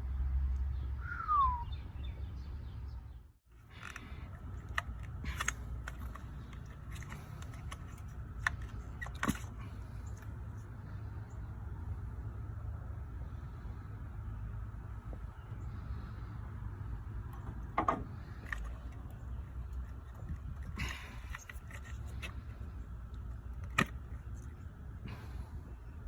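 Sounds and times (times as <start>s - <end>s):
steady low rumble: 1.8s - 26.0s.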